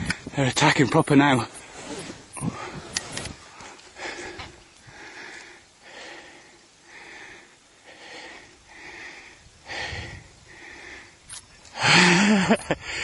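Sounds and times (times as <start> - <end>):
person breathing hard: 2.4 - 13.0.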